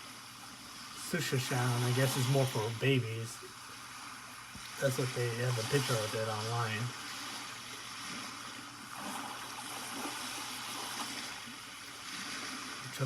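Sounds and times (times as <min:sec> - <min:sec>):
white noise machine hiss: 0:00.0 - 0:13.0.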